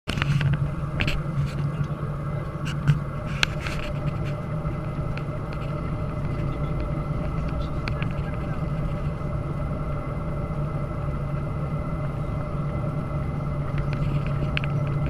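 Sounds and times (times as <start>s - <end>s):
airplane cabin engine hum: 0.1s - 15.0s.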